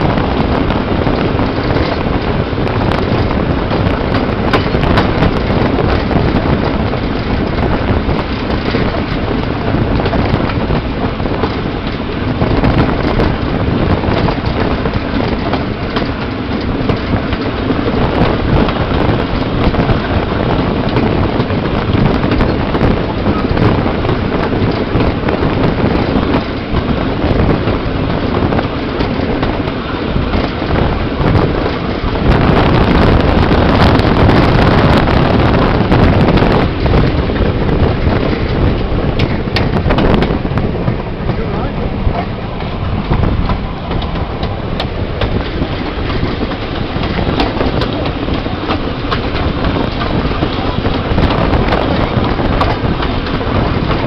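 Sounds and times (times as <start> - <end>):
wagon wheels rumbling on rails: 0.0 - 54.0
wind buffeting microphone: 0.0 - 54.0.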